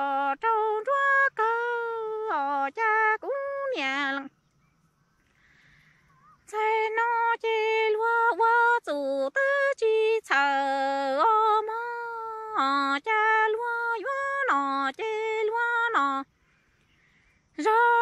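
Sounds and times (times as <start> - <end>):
woman singing unaccompanied: 0.0 - 4.4, 6.3 - 16.4, 17.4 - 18.0.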